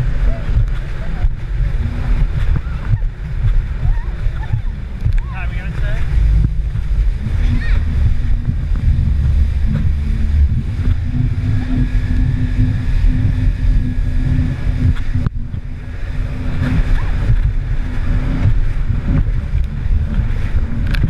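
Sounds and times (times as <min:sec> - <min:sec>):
jet ski engine drone: 0:00.0 - 0:21.0
rushing water: 0:00.0 - 0:21.0
wind buffeting microphone: 0:00.0 - 0:21.0.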